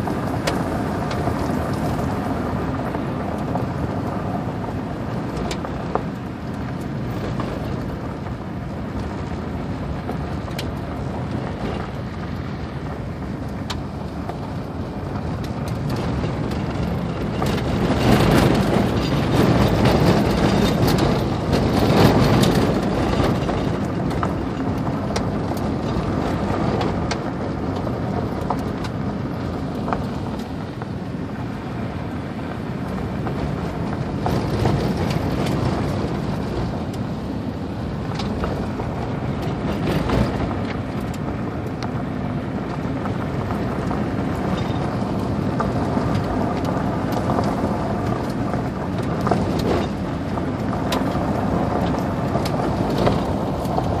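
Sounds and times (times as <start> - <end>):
car tyre road and engine noise: 0.0 - 54.0
gravel ticking against car: 0.0 - 54.0.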